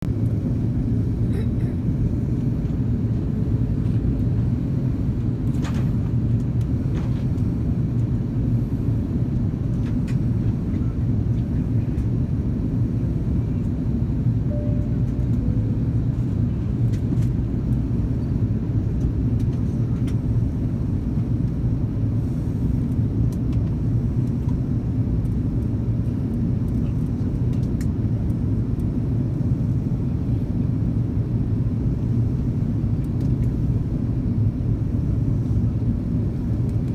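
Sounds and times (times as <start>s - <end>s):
airliner engines droning in flight: 0.0s - 36.9s.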